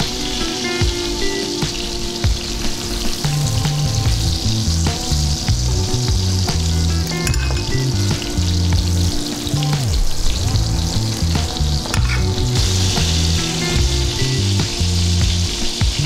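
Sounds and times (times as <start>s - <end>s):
patties sizzling in a skillet: 0.0s - 16.0s.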